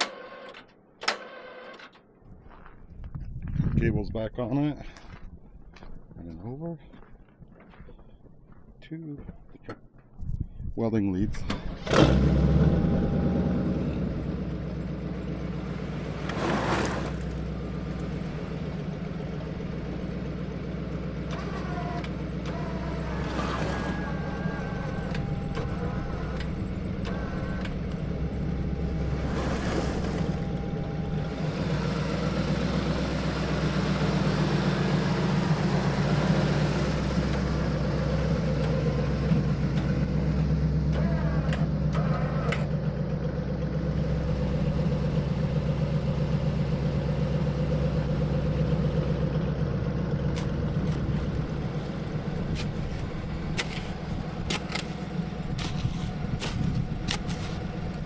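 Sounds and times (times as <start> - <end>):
vehicle engine idling: 11.2 - 58.0.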